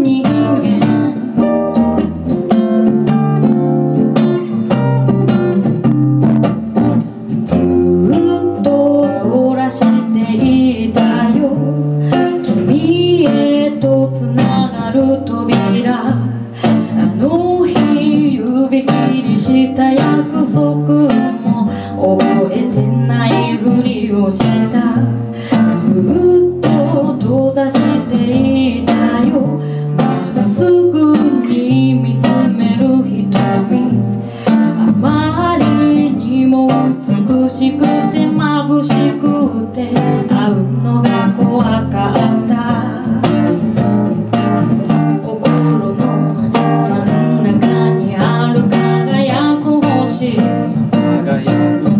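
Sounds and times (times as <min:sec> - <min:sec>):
woman singing into a microphone: 0:00.0 - 0:02.1, 0:07.0 - 0:51.9
acoustic guitar: 0:00.0 - 0:51.9.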